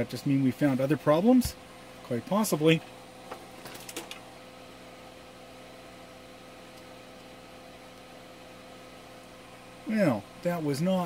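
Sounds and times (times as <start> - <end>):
low hum with hiss: 0.0 - 11.0.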